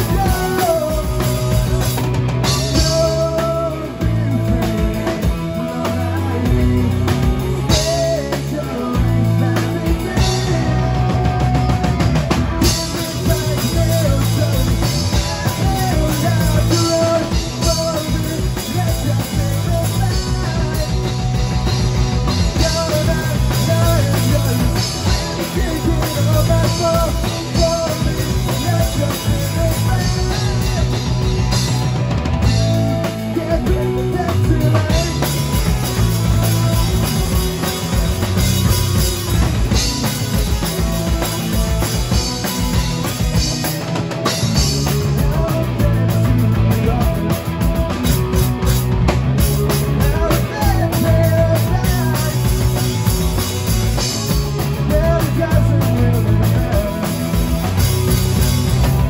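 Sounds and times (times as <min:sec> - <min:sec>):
drum kit: 0:00.0 - 0:59.0
electric guitars through amplifiers: 0:00.0 - 0:59.0.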